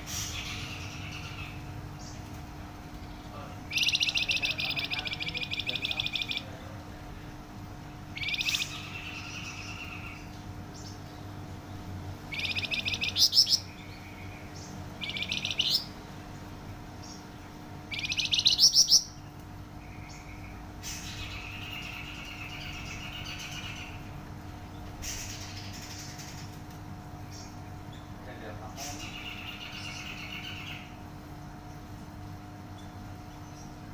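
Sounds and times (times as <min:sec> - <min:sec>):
faint steady hum: 0:00.0 - 0:33.9
songbird trilling and warbling: 0:00.2 - 0:02.3, 0:03.0 - 0:06.7, 0:07.8 - 0:26.6, 0:27.2 - 0:31.9.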